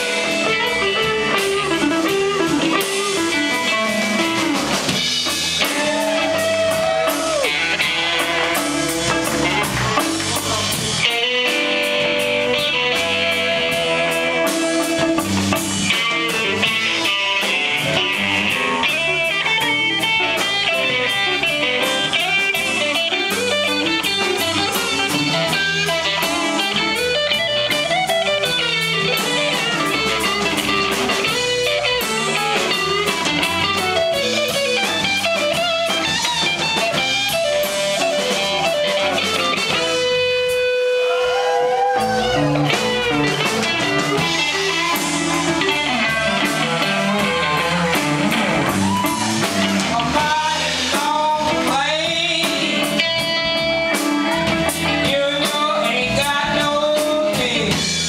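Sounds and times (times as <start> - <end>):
bass: 0.0 - 58.0
drums: 0.0 - 58.0
electric guitar lead: 0.0 - 58.0.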